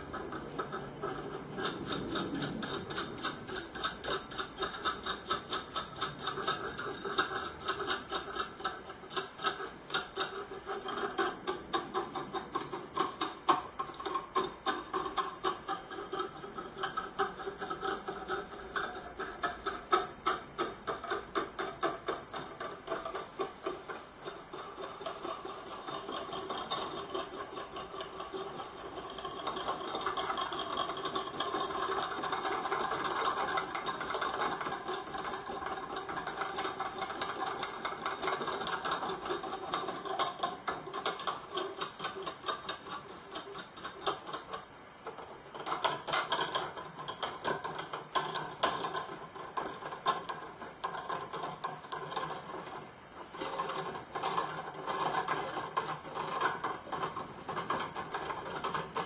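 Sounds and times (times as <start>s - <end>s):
metal parts clicking and rattling: 0.0s - 59.0s.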